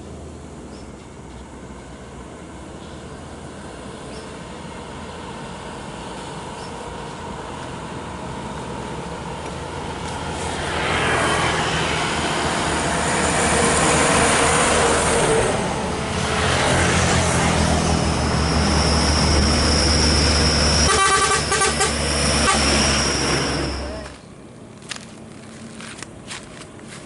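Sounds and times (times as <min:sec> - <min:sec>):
large road vehicles passing: 0:00.0 - 0:27.0.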